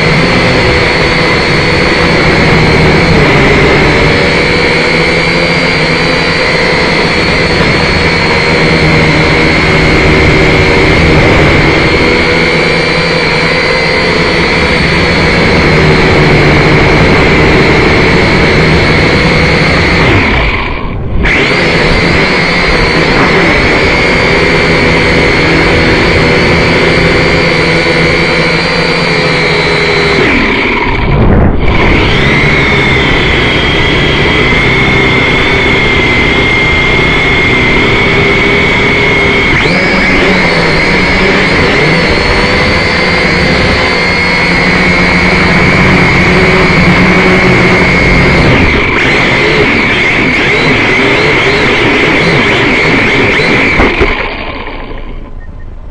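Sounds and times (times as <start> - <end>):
drone motors high whine: 0.0 - 55.9.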